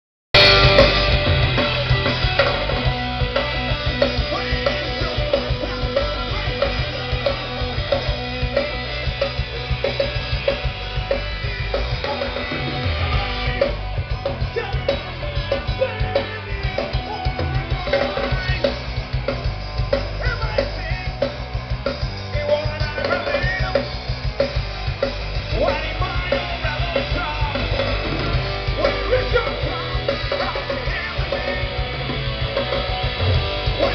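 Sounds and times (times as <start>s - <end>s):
bass and guitar: 0.3s - 33.9s
drum kit beating: 0.4s - 33.9s.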